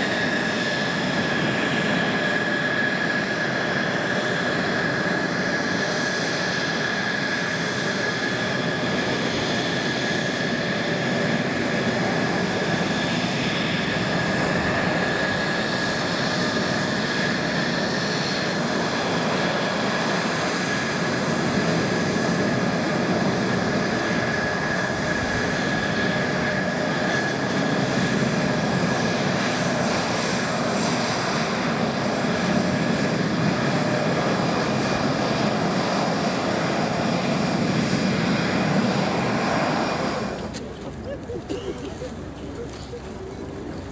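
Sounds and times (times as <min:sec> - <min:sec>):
jet engines idling: 0:00.0 - 0:43.9.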